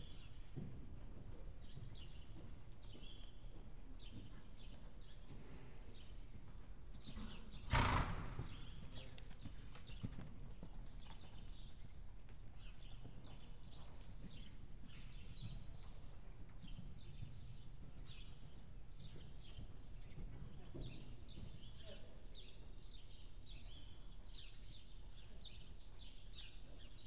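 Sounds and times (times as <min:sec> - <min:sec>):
horse hooves trotting: 0:00.0 - 0:22.1.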